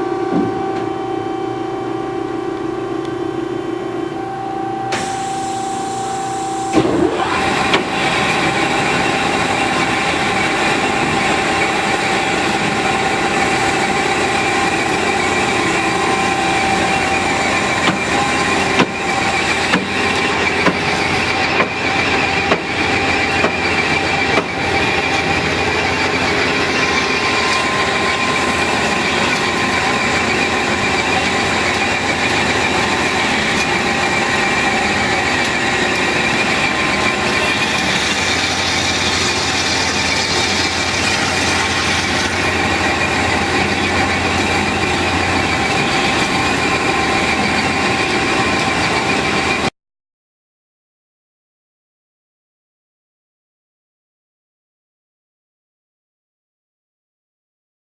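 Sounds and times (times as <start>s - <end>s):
band saw whirring: 0.0s - 49.7s.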